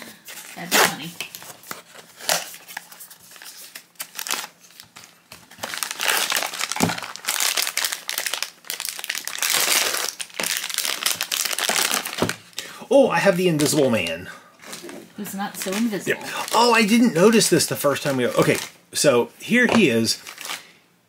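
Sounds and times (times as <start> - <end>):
foil bag crinkling: 0.2 - 18.8, 19.6 - 20.8.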